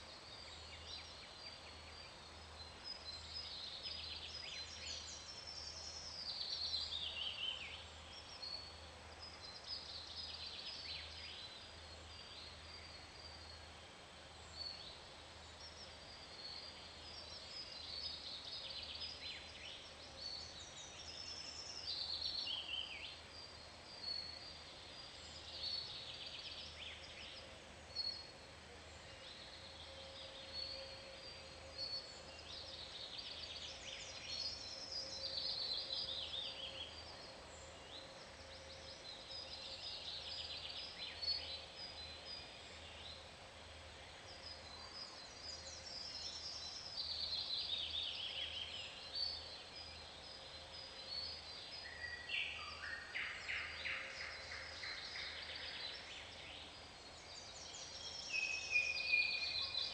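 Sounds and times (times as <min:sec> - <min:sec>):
birds singing: 0:00.2 - 0:59.9.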